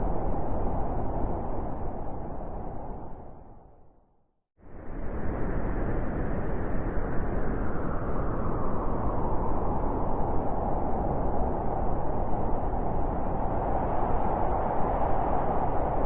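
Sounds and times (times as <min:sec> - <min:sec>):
wind blowing steadily: 0:00.0 - 0:04.0, 0:04.6 - 0:16.0.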